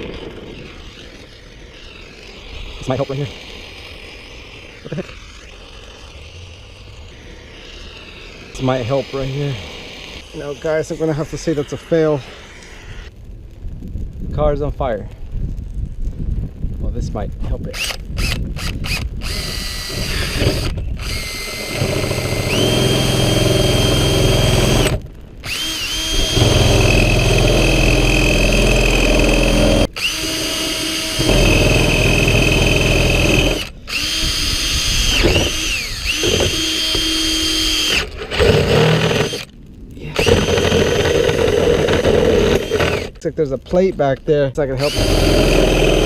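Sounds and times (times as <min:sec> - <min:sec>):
power drill motor whine: 0:00.0 - 0:13.1, 0:17.7 - 0:39.5, 0:40.1 - 0:43.2, 0:44.8 - 0:46.0.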